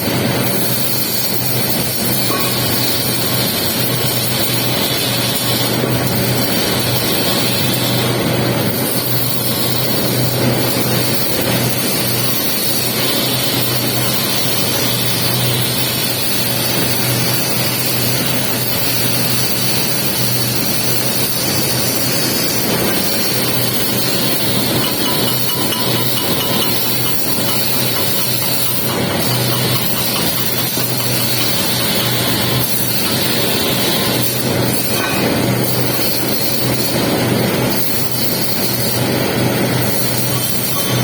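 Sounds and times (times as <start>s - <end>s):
welding arc crackling: 0.0s - 41.0s.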